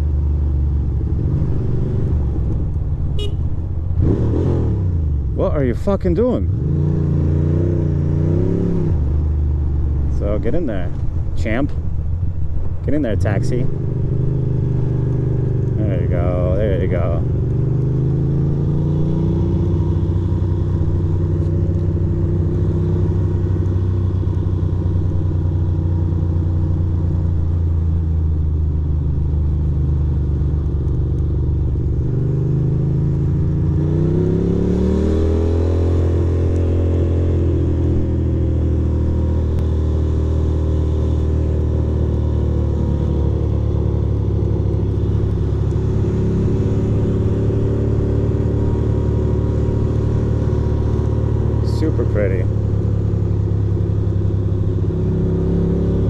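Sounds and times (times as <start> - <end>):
motorcycle engine running: 9.0 - 56.0.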